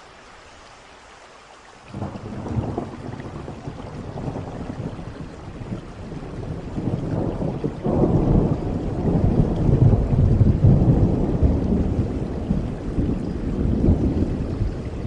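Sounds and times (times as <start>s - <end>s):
steady rain: 0.0s - 15.0s
rolling thunder: 1.9s - 15.0s.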